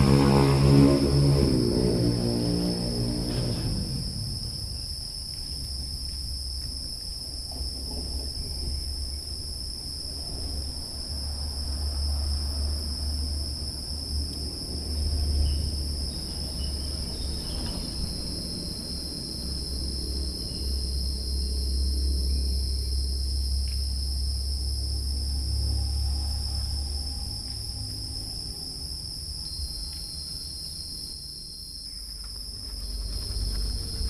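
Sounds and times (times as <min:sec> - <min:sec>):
high-pitched insect chorus: 0:00.0 - 0:34.0
low fluctuating rumble: 0:00.0 - 0:34.0.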